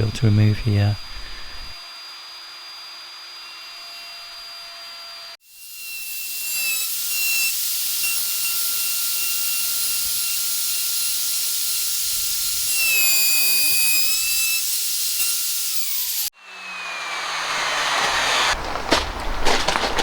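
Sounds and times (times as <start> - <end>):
router whining: 0.0 - 19.2.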